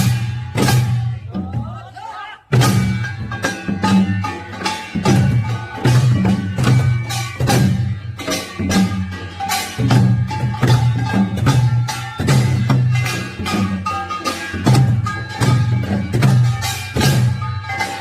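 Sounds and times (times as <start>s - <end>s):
drums and gongs fast rhythm: 0.0s - 18.0s.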